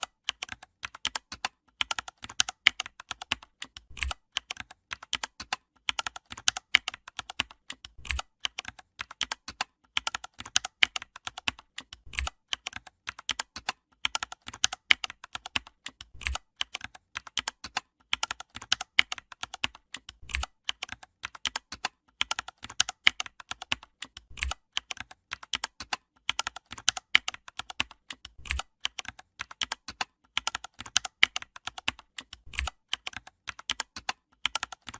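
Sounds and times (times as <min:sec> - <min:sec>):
keyboard typing: 0:00.0 - 0:34.9.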